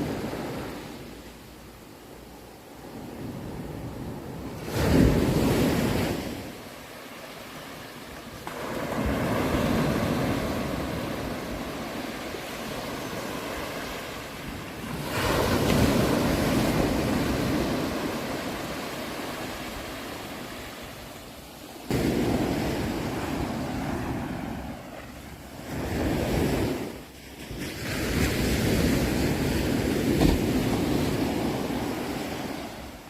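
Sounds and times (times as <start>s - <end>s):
ocean waves breaking on shore: 0.0s - 33.0s.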